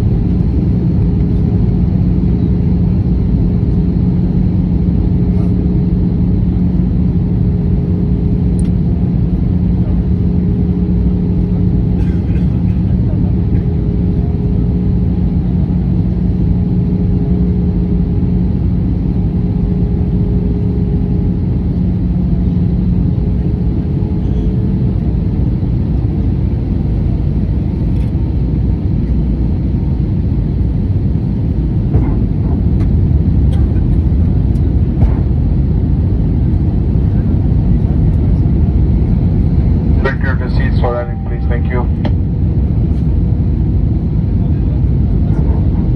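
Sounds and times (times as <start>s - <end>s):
jet engines rumbling: 0.0s - 45.9s
steady hum: 0.0s - 45.9s.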